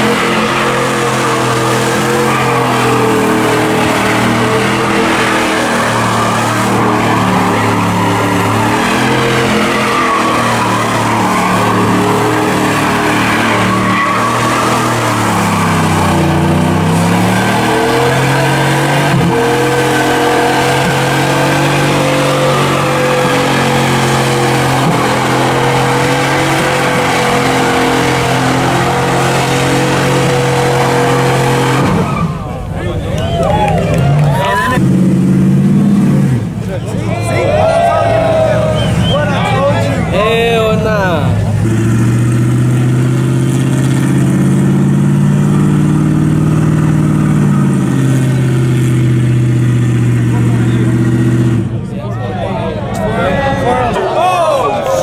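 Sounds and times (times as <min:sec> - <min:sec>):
vehicle engine at high revs: 0:00.0 - 0:37.0, 0:38.1 - 0:51.9.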